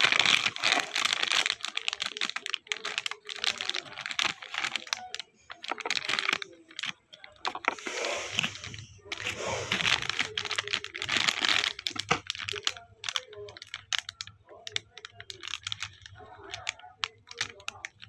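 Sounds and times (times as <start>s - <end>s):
snack packet crinkling: 0.0s - 18.0s.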